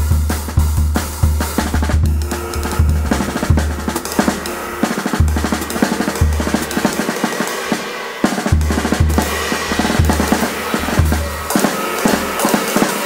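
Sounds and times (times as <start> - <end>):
bass drum booms: 0.0 - 7.1, 8.5 - 12.5
snare and tom strokes: 0.0 - 13.0
cymbal wash: 2.0 - 13.0.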